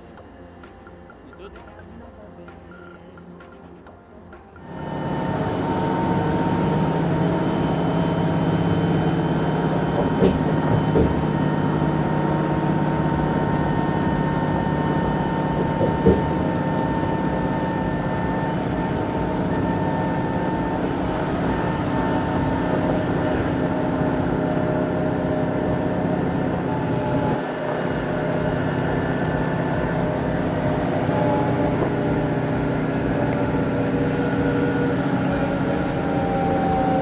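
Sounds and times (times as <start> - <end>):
train motor hum: 0.0 - 37.0
wheels rumbling on rail: 3.7 - 37.0.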